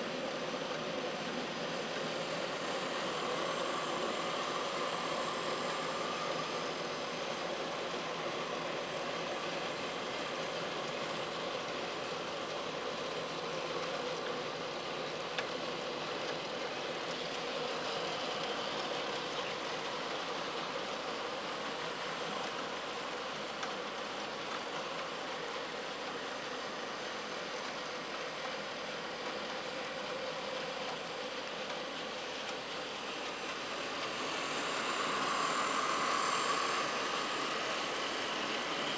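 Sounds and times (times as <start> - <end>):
diesel engine sound through small speaker: 0.0 - 38.9.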